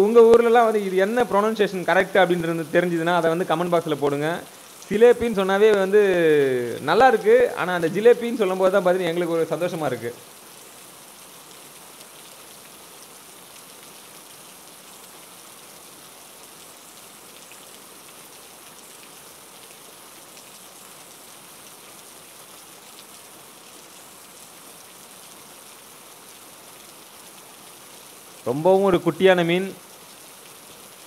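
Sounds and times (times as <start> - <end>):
heavy rain on water and grass: 0.0 - 31.0.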